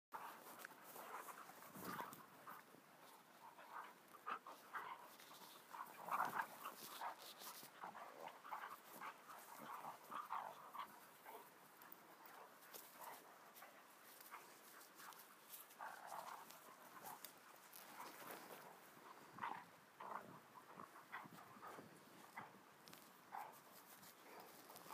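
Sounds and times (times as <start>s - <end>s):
dogs huffing: 0.2s - 22.6s
dogs panting: 0.2s - 24.9s.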